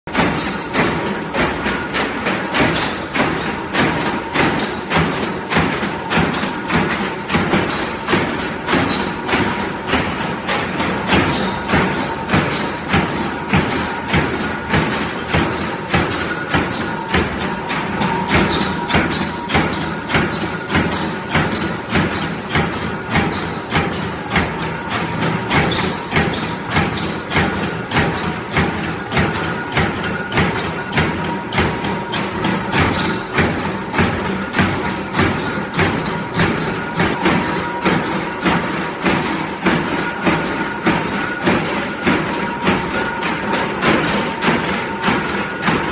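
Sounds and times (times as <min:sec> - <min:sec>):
continuous machine noise: 0:00.1 - 0:45.9
machine punching metal sheet: 0:00.1 - 0:45.9
metal press thudding and clattering: 0:00.1 - 0:45.9.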